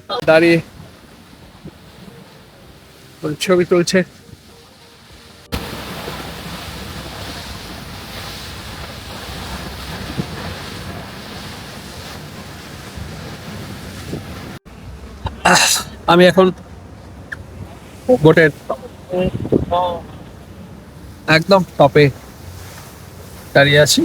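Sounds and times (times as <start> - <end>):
sea water noise: 0.0 - 24.0
wind over microphone: 0.3 - 3.2, 4.1 - 15.5, 16.7 - 24.0.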